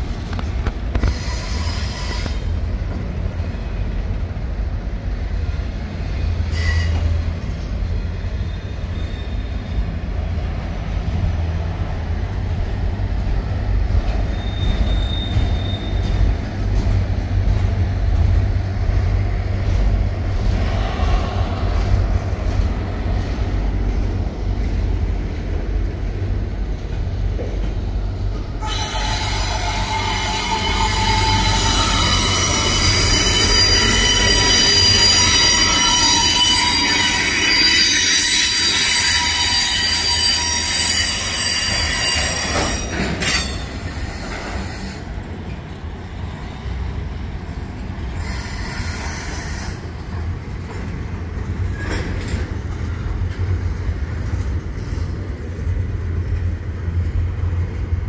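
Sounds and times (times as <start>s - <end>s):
freight train rumbling: 0.0s - 58.0s
steel wheels squealing on rail: 0.1s - 4.4s, 5.0s - 11.7s, 12.4s - 24.9s, 28.4s - 57.0s.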